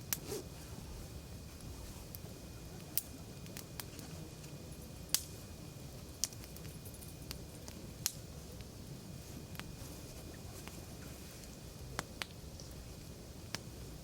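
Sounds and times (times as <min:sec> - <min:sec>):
campfire crackling and popping: 0:00.0 - 0:14.0
low steady rumble: 0:00.0 - 0:14.0.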